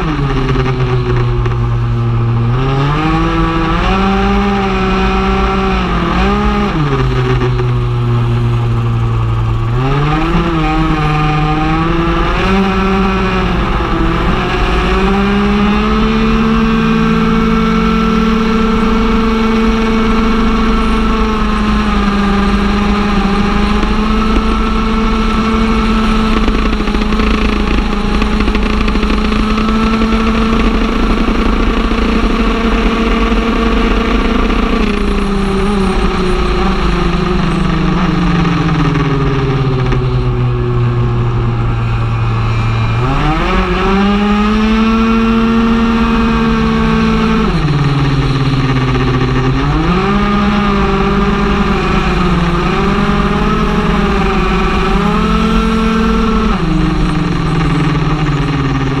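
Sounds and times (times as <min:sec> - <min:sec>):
two-stroke scooter engine revving: 0:00.0 - 0:59.0.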